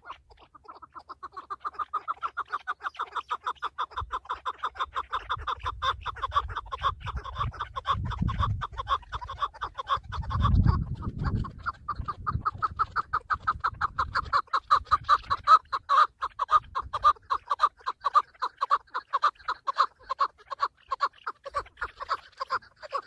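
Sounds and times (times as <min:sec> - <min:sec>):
partridge clucking calls: 0:00.0 - 0:23.0.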